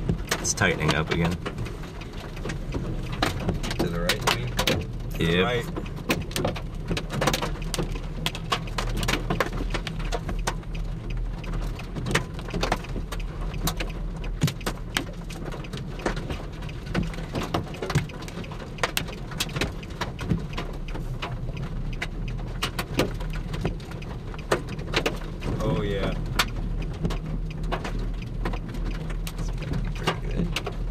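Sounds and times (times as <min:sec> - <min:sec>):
car low hum: 0:00.0 - 0:30.9
raindrops tapping on car roof: 0:00.0 - 0:30.9.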